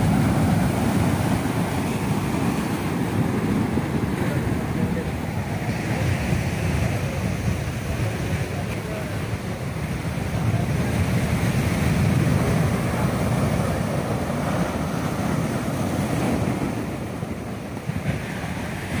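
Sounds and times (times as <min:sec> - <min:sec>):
heavy surf breaking on shore: 0:00.0 - 0:19.0
wind buffeting microphone: 0:00.0 - 0:19.0.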